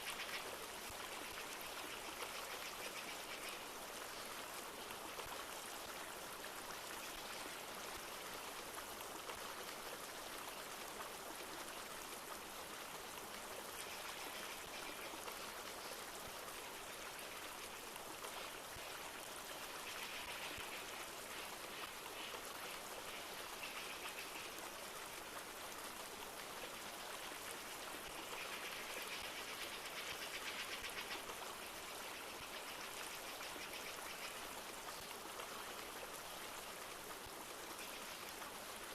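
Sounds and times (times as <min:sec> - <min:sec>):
light rain falling: 0:00.0 - 0:38.9
river flowing: 0:00.0 - 0:38.9.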